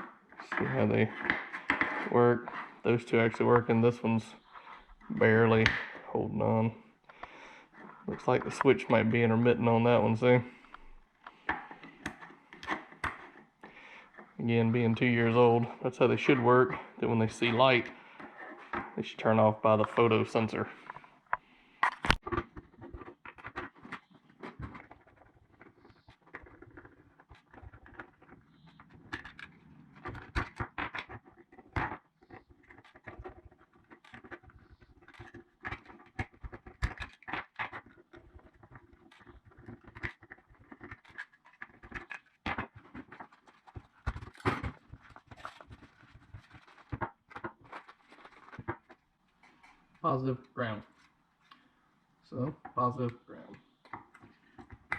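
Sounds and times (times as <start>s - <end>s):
small plastic parts clicking and scraping: 6.4s - 51.7s, 52.4s - 54.9s.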